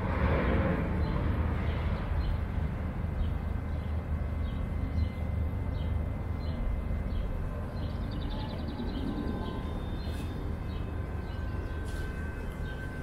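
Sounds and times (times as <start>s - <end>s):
city street rumble: 0.0s - 13.0s.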